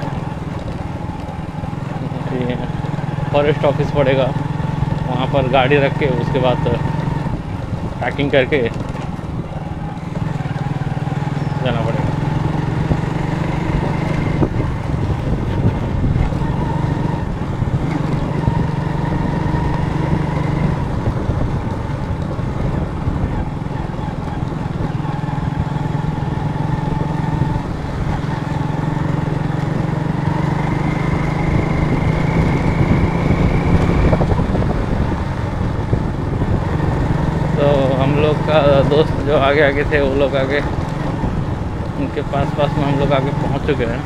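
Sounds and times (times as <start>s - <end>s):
motorcycle engine running: 0.0s - 44.0s
wind and road noise rumble: 0.0s - 44.0s.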